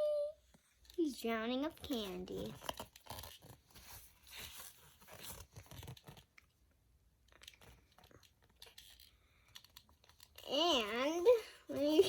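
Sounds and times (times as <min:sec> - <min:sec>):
faint rustles and clicks: 0:00.4 - 0:06.6, 0:07.2 - 0:12.0.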